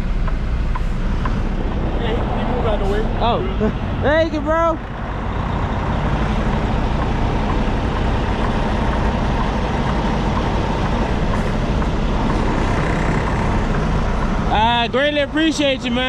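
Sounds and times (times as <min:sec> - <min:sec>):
constant rushing noise: 0:00.0 - 0:16.0
diesel truck engine running: 0:00.0 - 0:16.0.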